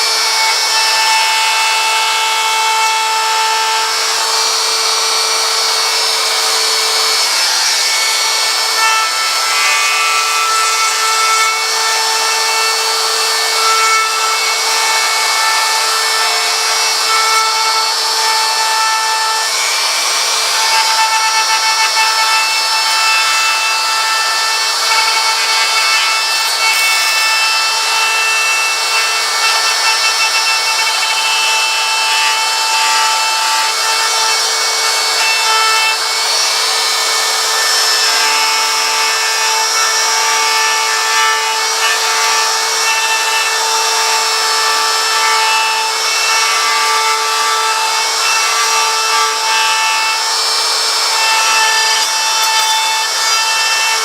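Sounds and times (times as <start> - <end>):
router cutting wood: 0.0 - 54.0.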